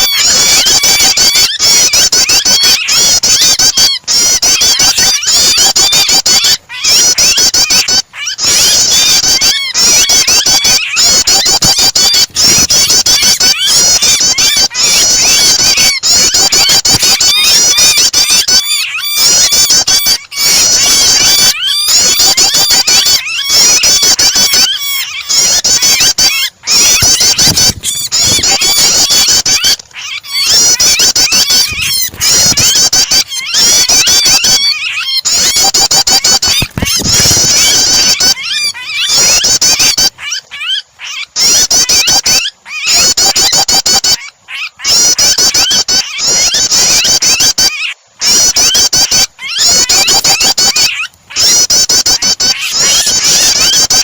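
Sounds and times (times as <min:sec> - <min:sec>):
birds chattering: 0:00.0 - 0:54.0
trapped bird squealing: 0:00.0 - 0:54.0.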